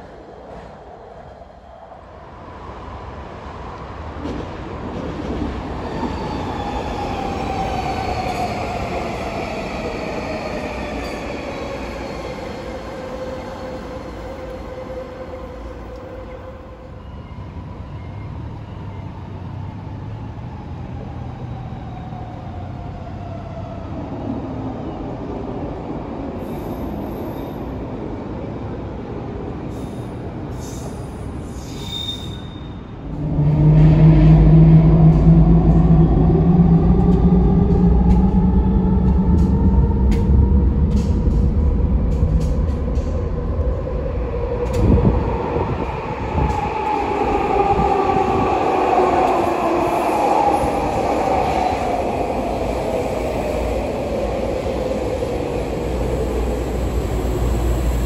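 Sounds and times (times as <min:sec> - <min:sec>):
train whine and rumble: 0:00.0 - 0:58.0.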